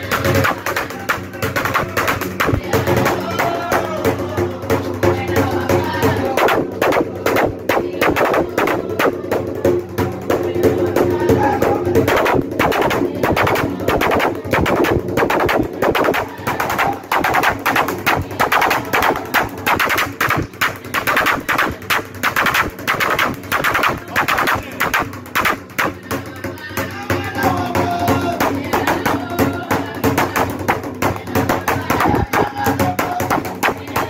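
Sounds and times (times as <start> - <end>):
fast rhythmic percussion: 0.0 - 34.0
voices singing or chanting: 0.0 - 34.0.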